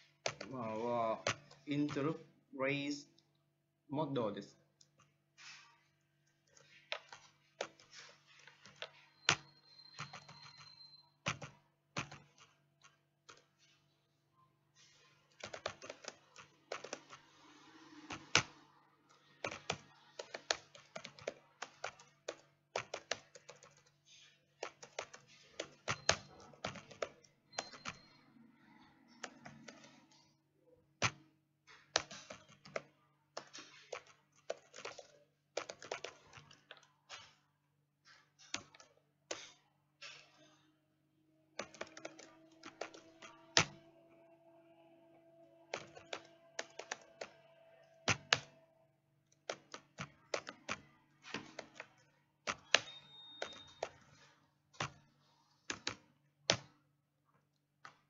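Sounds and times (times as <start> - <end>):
keyboard typing: 0.0 - 3.0, 4.8 - 14.2, 14.8 - 40.7, 41.5 - 56.8.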